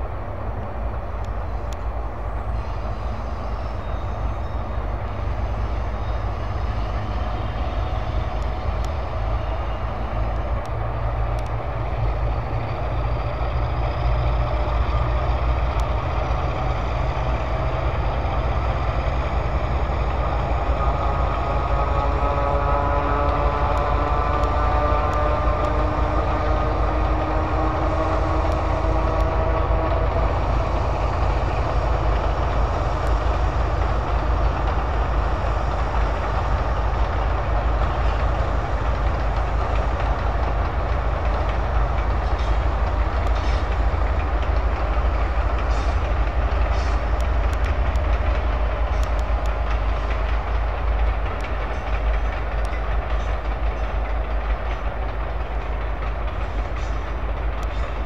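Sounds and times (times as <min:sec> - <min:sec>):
locomotive engines rumbling: 0:00.0 - 0:58.0
train wheels clicking over rail joints: 0:00.0 - 0:58.0.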